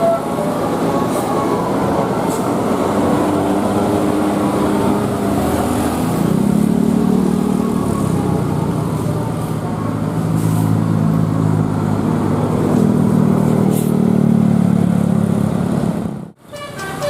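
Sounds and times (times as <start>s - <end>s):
bus passing by: 0.0s - 17.0s.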